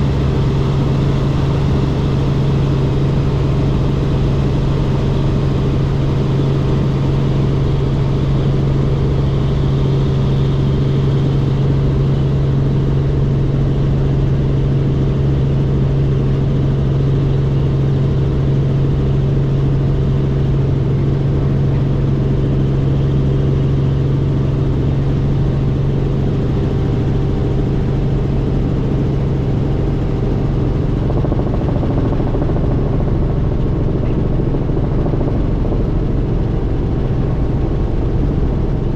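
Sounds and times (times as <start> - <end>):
helicopter engine and rotors droning: 0.0 - 38.9.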